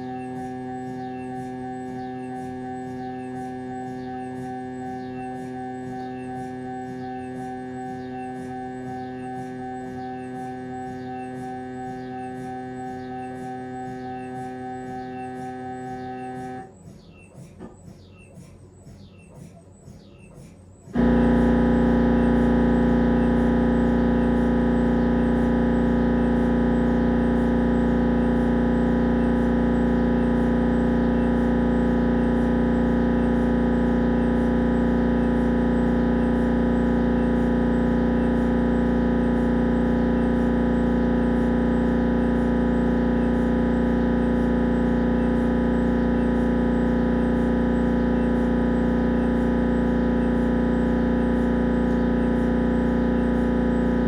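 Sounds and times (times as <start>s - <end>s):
mri scanner droning: 0.0s - 54.0s
mri scanner irregular clicks: 0.0s - 54.0s.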